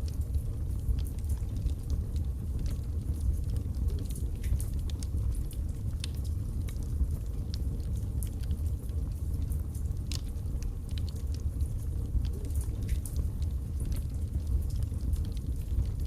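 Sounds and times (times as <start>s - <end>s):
logs crackling and popping: 0.0s - 16.0s
wood fire burning: 0.0s - 16.0s.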